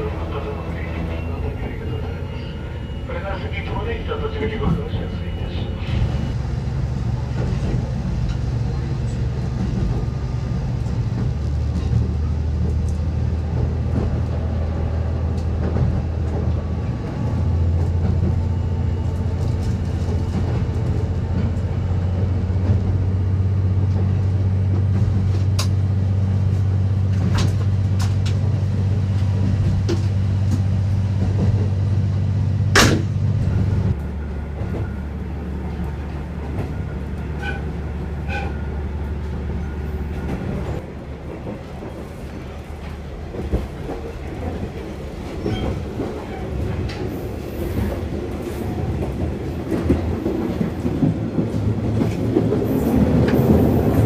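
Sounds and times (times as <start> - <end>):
wheels on rail: 0.0 - 54.0.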